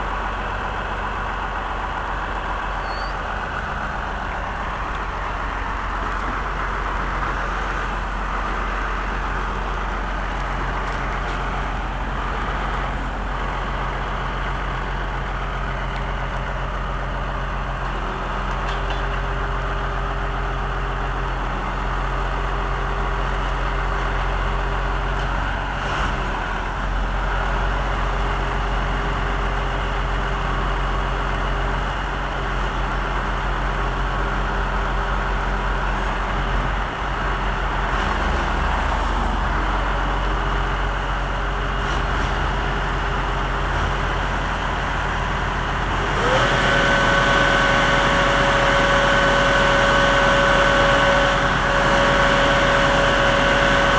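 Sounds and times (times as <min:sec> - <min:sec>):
diesel engine idling and revving: 0:00.0 - 0:53.9.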